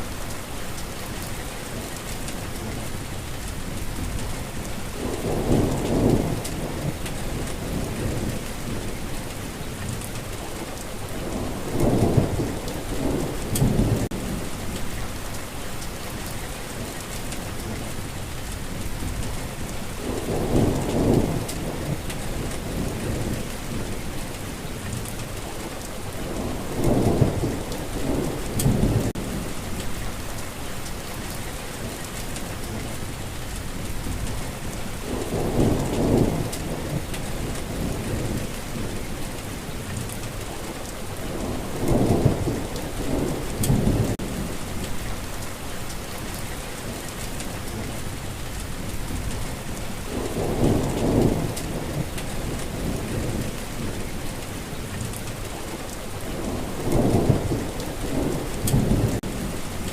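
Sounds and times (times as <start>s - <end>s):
steady rainfall: 0.0s - 59.9s
low rumbles of thunder: 2.0s - 15.3s, 16.1s - 59.9s.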